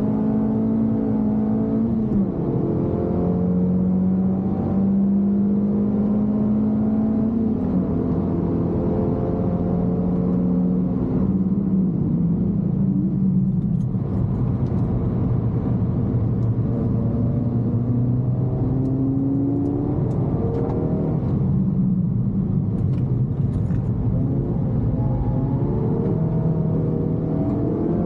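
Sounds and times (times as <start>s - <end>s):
car engine revving from inside: 0.0s - 28.0s.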